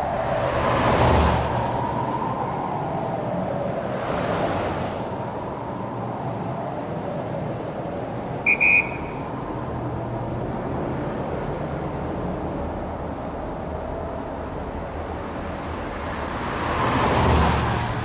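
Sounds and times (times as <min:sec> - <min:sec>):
passing cars rumbling: 0:00.0 - 0:18.0.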